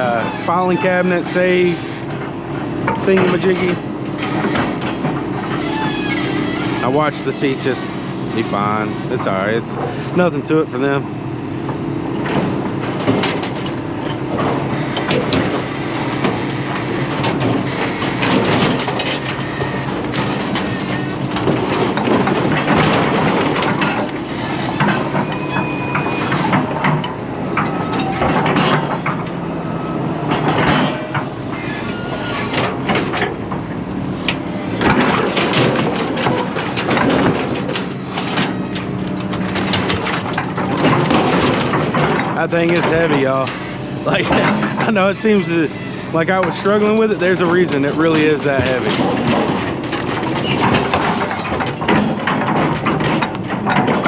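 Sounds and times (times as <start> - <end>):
scrap metal scraping and clanking: 0.0 - 11.0, 12.2 - 54.0
engine running: 0.0 - 54.0.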